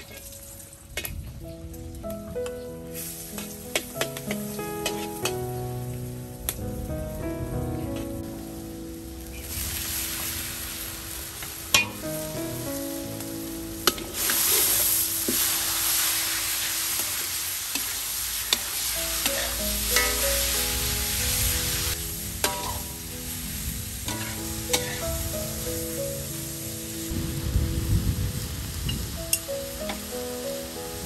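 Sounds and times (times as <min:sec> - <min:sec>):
soft background music: 0:00.0 - 0:31.0
meat sizzling in a wok: 0:02.9 - 0:05.4, 0:08.2 - 0:31.0.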